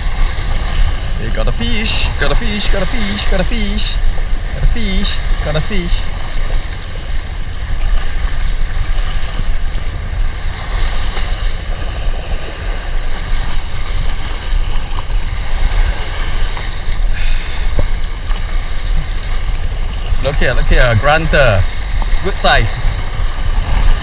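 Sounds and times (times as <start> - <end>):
sea waves washing: 0.0 - 24.0
wind rumbling on microphone: 0.0 - 24.0.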